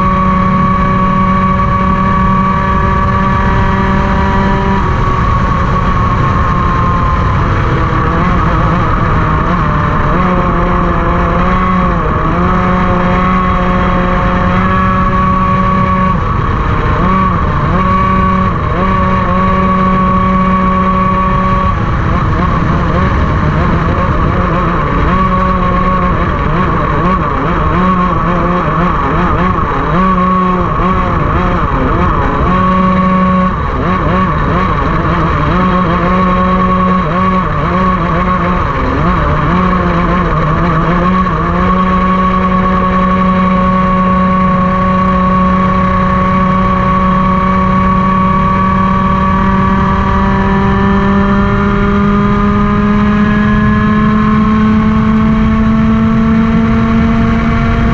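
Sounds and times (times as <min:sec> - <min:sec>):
racing kart engine: 0:00.0 - 0:57.9.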